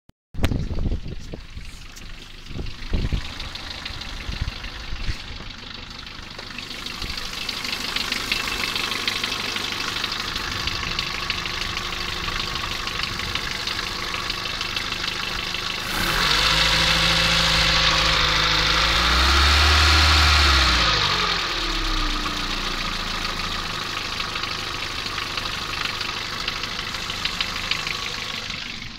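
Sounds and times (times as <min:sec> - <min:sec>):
car engine running with rattle: 0:00.4 - 0:28.9.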